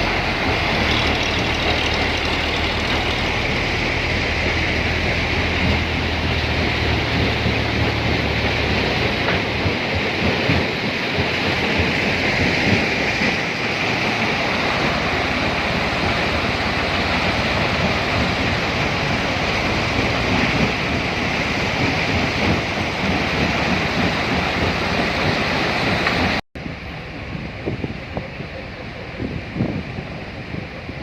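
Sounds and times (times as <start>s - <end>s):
heavy machinery running: 0.0s - 26.9s.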